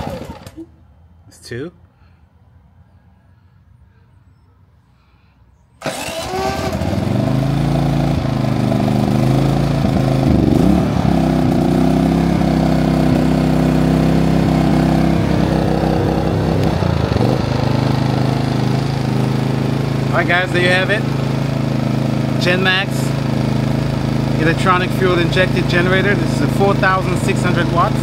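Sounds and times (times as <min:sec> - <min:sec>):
generator engine starting and running: 0:00.0 - 0:01.2, 0:05.0 - 0:28.0.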